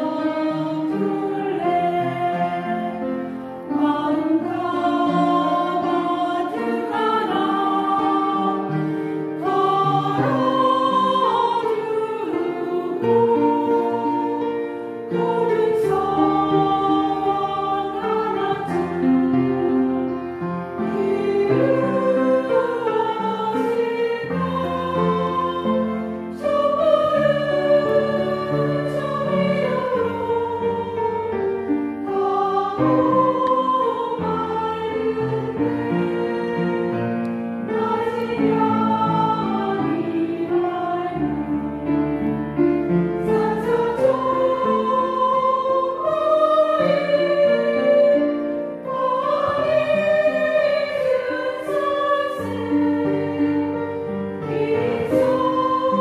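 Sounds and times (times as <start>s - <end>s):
upright piano: 0.0s - 56.0s
women's choir singing a hymn: 0.0s - 56.0s.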